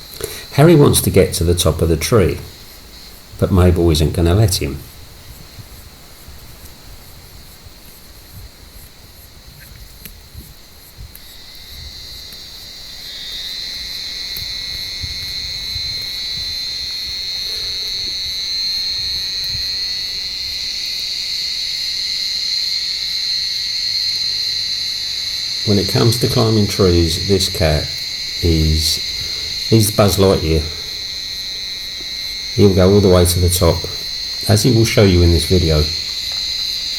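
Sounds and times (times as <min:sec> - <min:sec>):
cicadas buzzing: 0:00.0 - 0:36.9.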